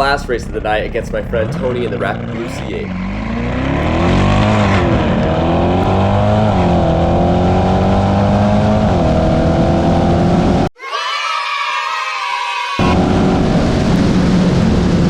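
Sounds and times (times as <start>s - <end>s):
car engine at full throttle: 0.0s - 10.7s, 12.8s - 15.0s.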